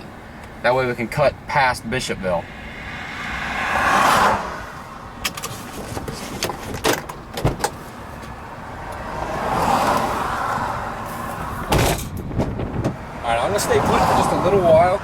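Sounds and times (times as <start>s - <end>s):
cars driving past: 0.1s - 15.0s.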